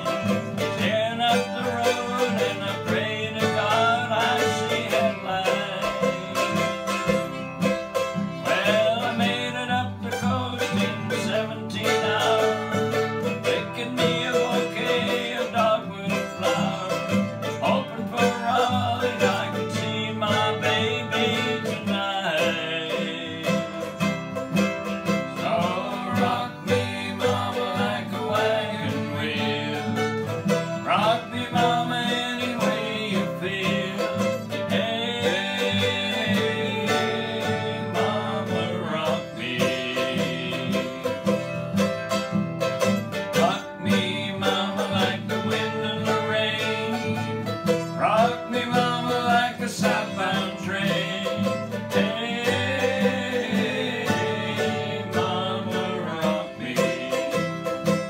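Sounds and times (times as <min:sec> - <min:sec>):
acoustic guitar strumming: 0:00.0 - 0:58.0
mandolin playing: 0:00.0 - 0:58.0.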